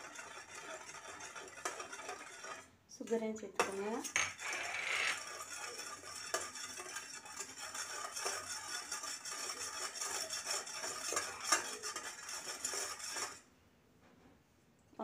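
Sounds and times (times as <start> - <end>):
spoon stirring in metal bowl: 0.0 - 13.5.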